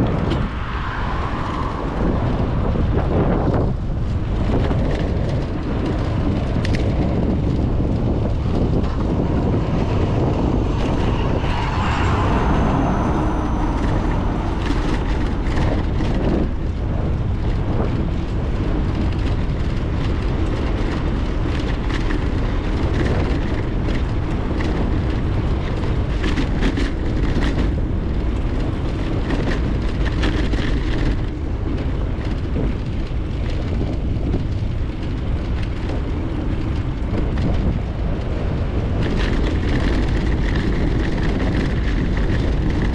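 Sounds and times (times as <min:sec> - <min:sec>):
bicycle tyres on road: 0:00.0 - 0:42.9
wind rushing over microphone: 0:00.0 - 0:42.9
bike rattles and clicks: 0:01.3 - 0:11.1, 0:14.6 - 0:42.9.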